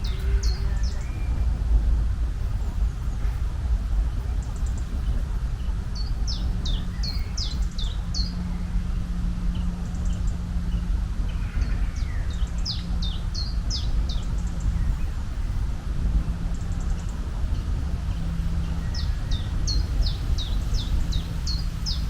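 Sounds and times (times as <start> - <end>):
birds chirping: 0.0 - 22.0
low rumble: 0.0 - 22.0.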